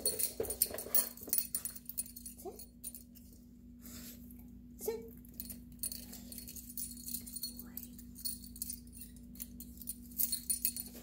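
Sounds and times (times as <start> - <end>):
dog collar tags jangling: 0.0 - 3.2, 5.2 - 11.0
steady low hum: 0.0 - 11.0.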